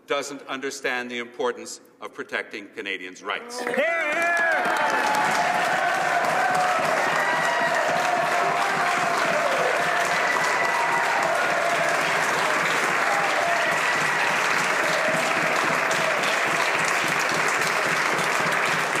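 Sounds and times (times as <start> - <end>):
people applauding: 3.6 - 19.0.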